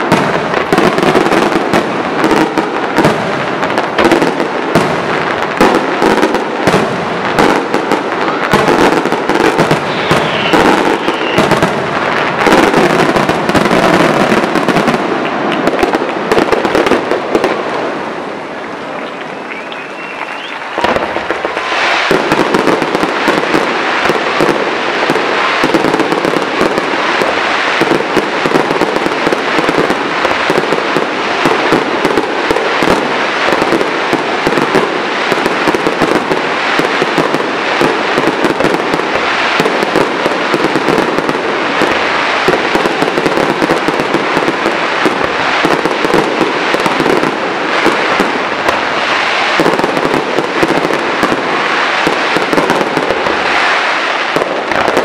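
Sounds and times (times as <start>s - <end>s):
fireworks popping and crackling: 0.0s - 55.0s.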